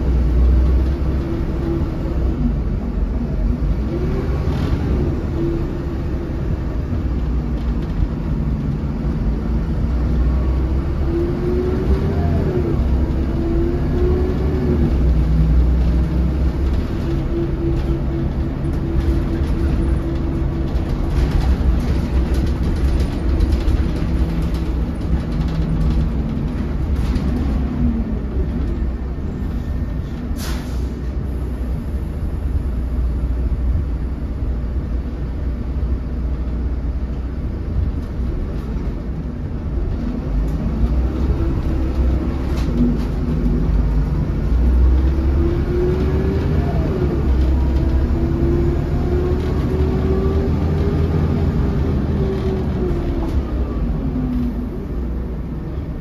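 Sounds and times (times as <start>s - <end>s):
bus diesel engine: 0.0s - 56.0s
road rumble: 0.0s - 56.0s.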